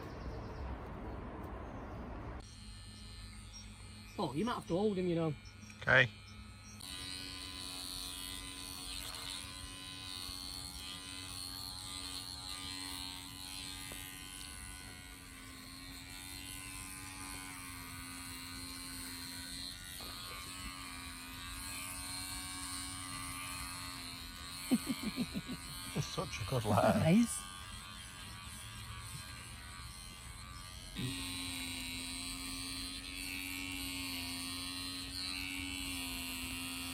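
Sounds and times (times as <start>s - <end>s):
electric clippers buzzing: 2.3s - 36.9s.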